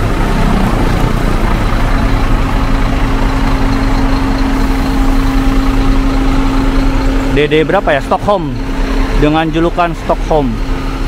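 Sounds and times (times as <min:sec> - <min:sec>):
diesel coach engine droning: 0:00.0 - 0:11.0
steady hum: 0:00.0 - 0:11.0.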